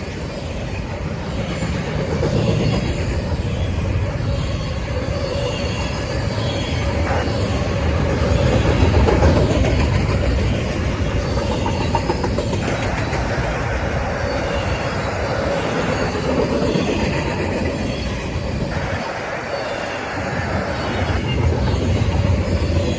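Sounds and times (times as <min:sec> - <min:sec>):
freight train wheels rumbling: 0:00.0 - 0:22.9.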